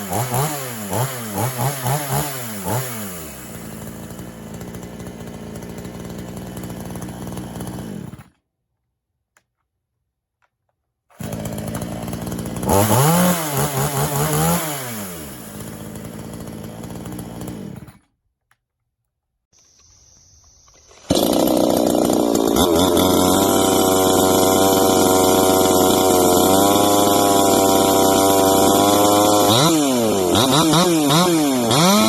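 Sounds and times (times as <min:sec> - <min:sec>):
chainsaw engine running and revving: 0:00.0 - 0:08.3, 0:11.2 - 0:17.9, 0:21.1 - 0:32.0.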